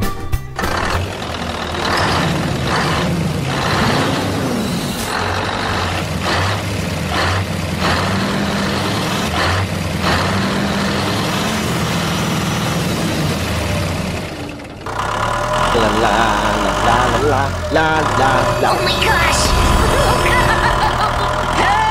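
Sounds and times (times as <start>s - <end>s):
truck engine running: 0.0s - 21.9s.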